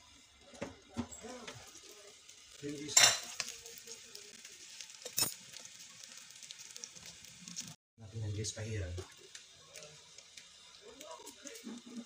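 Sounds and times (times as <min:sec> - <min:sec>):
chicken sizzling on oven tray: 0:00.0 - 0:12.0.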